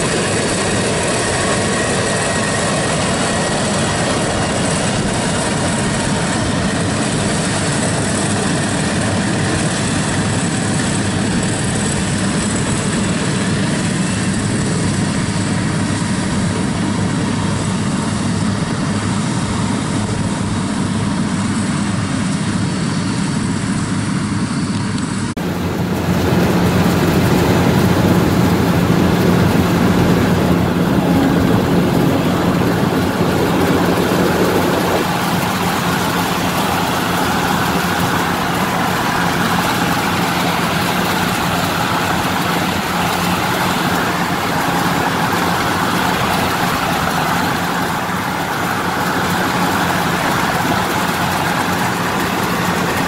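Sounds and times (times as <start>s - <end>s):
combine harvester engine droning: 0.0s - 53.0s.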